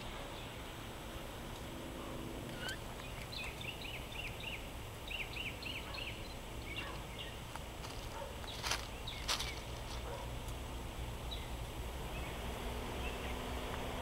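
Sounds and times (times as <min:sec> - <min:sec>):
low steady rumble: 0:00.0 - 0:14.0
songbird chirping: 0:01.5 - 0:14.0.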